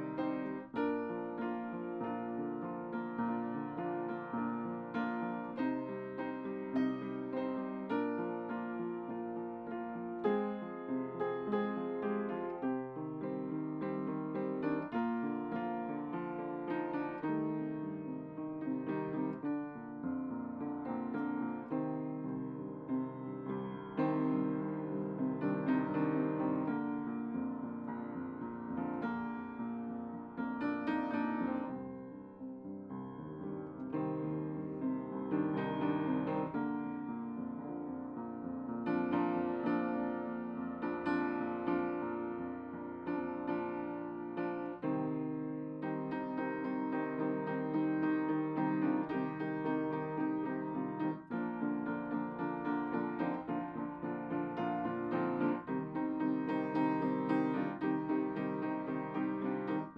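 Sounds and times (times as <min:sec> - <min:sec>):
piano chords: 0:00.0 - 0:59.9.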